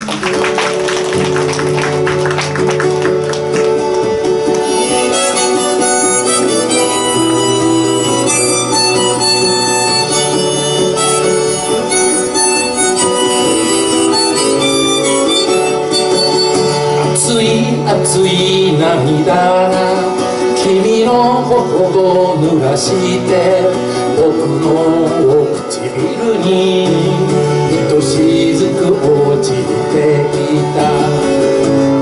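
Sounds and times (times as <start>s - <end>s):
acoustic guitar strummed: 0.0s - 32.0s
harmonica melody: 2.8s - 32.0s.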